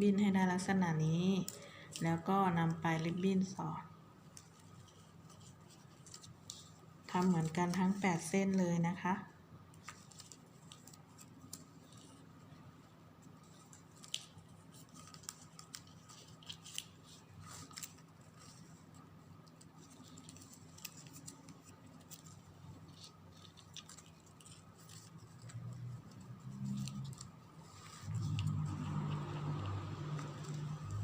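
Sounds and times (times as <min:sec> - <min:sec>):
ribbon rustling and clicking: 0:04.2 - 0:08.6, 0:09.7 - 0:31.0.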